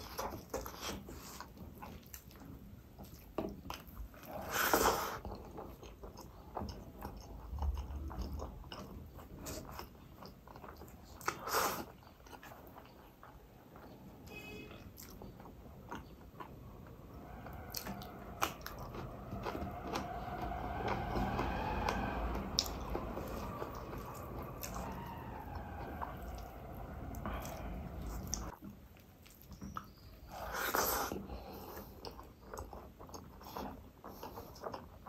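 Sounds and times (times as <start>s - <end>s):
person chewing rice: 0.0s - 21.0s, 21.9s - 26.5s, 27.1s - 35.0s.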